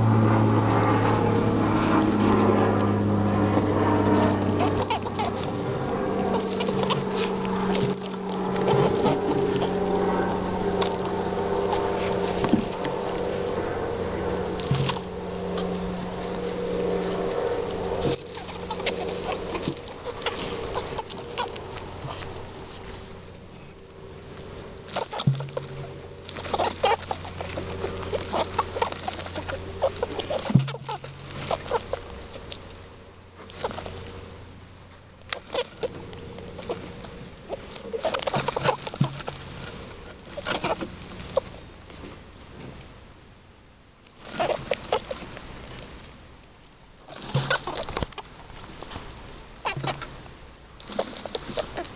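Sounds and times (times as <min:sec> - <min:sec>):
steady low hum: 0:00.0 - 0:51.9
straw nest rustling and crackling: 0:00.0 - 0:51.9.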